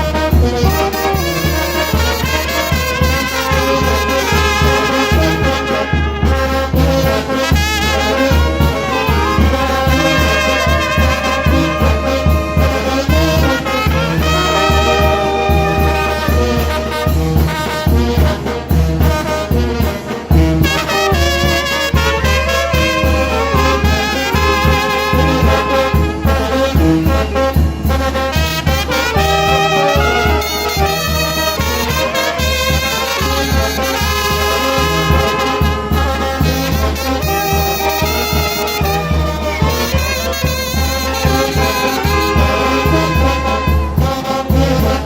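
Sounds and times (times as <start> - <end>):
trumpets and trombones: 0.0 - 45.0.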